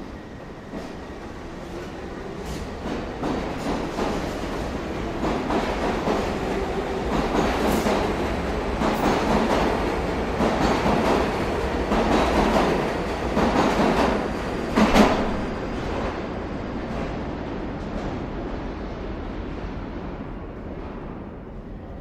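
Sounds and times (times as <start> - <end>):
subway train clattering over rail joints: 0.0 - 22.0.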